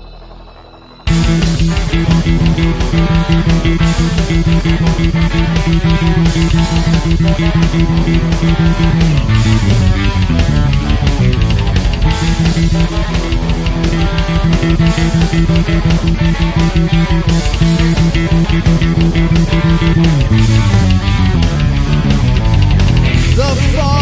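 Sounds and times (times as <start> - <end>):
bass guitar: 1.1 - 24.0
electric guitar riff: 1.1 - 24.0
fast drum beat: 1.1 - 24.0.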